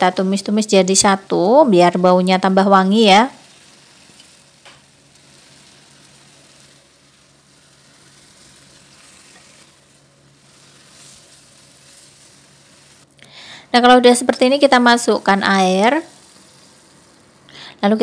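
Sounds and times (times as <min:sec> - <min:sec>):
food sizzling in a pot: 0:00.0 - 0:18.0.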